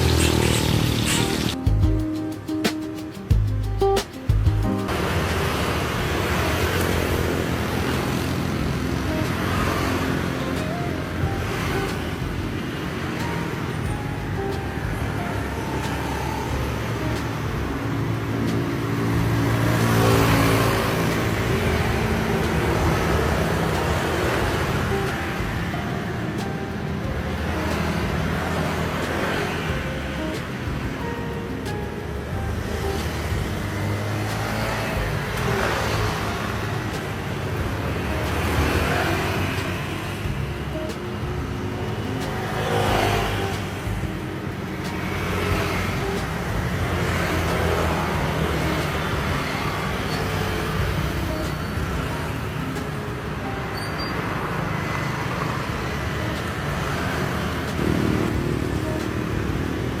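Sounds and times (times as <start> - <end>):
motor vehicles passing: 0.0 - 60.0.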